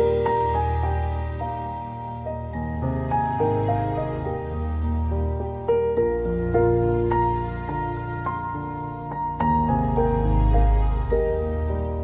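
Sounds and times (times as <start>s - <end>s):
slow background music: 0.0s - 12.0s.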